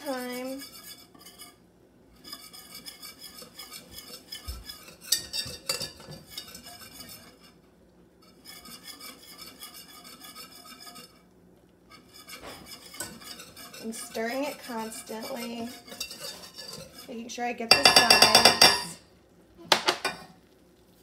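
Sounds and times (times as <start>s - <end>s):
whisk clanking against pot: 0.0s - 1.6s, 2.2s - 7.6s, 8.2s - 11.2s, 11.9s - 19.0s
metal whisk scraping a saucepan: 0.0s - 19.0s.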